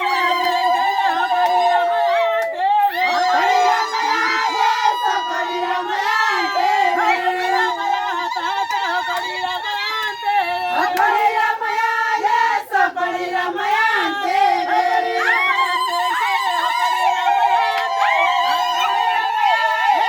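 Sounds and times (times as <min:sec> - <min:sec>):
crowd noise: 0:00.0 - 0:20.0
high voices singing together: 0:00.0 - 0:20.0.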